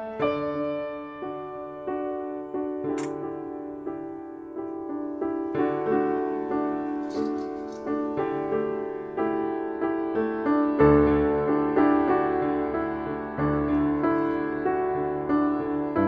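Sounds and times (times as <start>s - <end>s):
piano playing: 0.0s - 16.0s.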